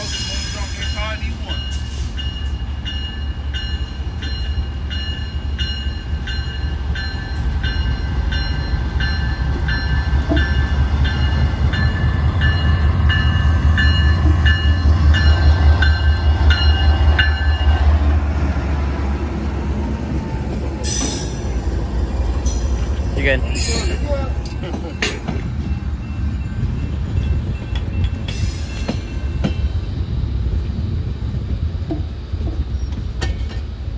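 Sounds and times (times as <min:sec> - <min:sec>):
locomotive bell ringing: 0:00.0 - 0:18.1, 0:20.3 - 0:29.9
locomotive engine rumbling: 0:00.0 - 0:33.9.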